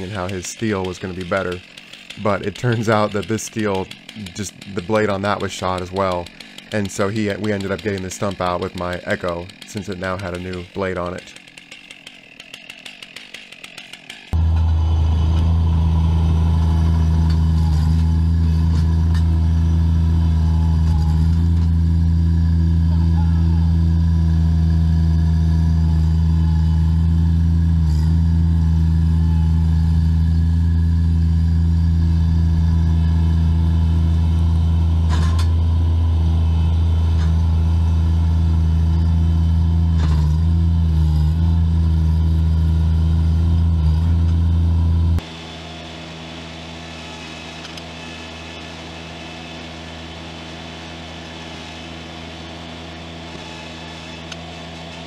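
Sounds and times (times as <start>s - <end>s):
loader engine running: 0.0s - 55.0s.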